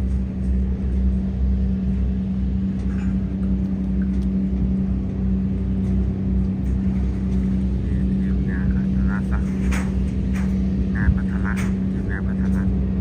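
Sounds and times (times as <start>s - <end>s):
tugboat engine running: 0.0s - 13.0s.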